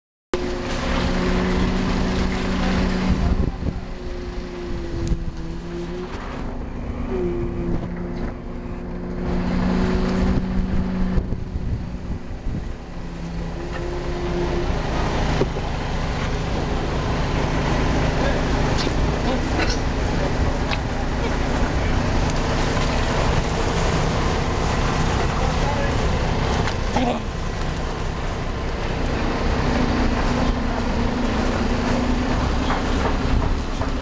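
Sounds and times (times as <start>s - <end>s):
continuous rumbling noise: 0.4s - 34.0s
engine humming: 0.4s - 34.0s.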